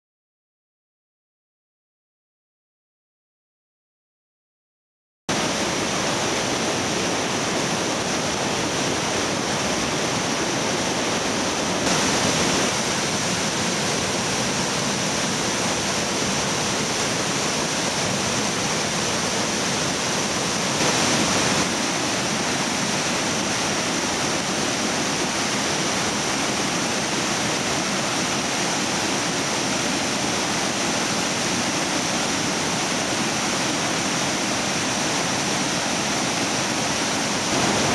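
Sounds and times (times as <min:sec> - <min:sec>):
rushing whitewater: 0:05.3 - 0:37.9.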